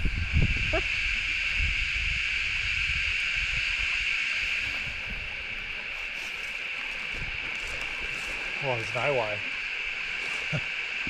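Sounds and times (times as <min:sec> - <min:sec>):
high-pitched drone: 0:00.0 - 0:11.0
wind rumbling on microphone: 0:00.0 - 0:11.0.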